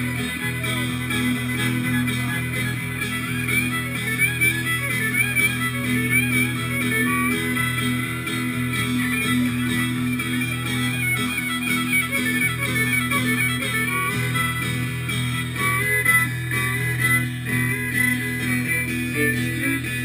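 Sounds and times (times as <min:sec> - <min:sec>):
fiddle melody: 0:00.0 - 0:20.0
guitar accompaniment: 0:00.0 - 0:20.0.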